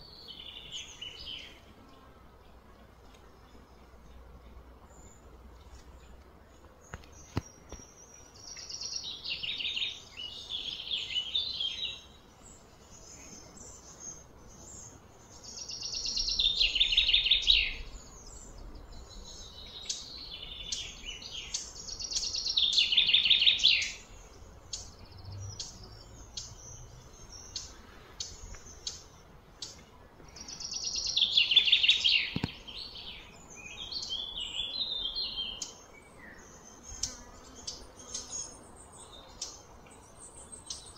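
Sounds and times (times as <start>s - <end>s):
bird singing: 0.0s - 2.6s, 3.3s - 40.9s.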